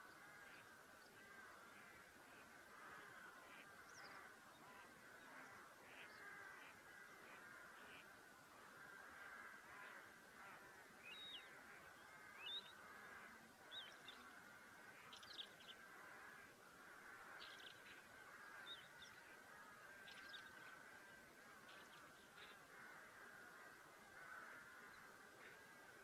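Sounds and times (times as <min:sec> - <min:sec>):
distant bird chorus: 0:00.0 - 0:26.0.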